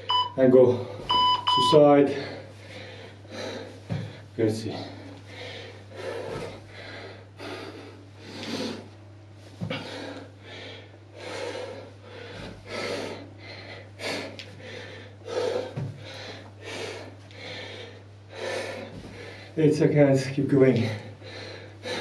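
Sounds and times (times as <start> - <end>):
steady low hum: 0.0 - 22.0
man breathing hard: 2.0 - 19.6, 20.8 - 22.0.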